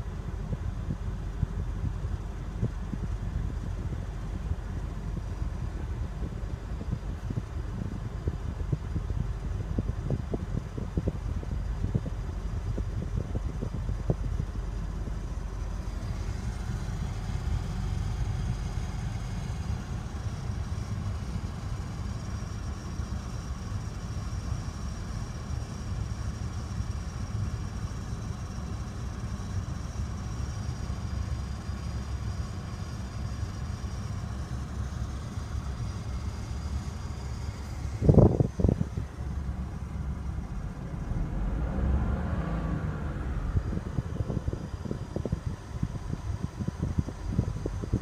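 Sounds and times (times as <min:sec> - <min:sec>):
air conditioning rumble: 0:00.0 - 0:48.0.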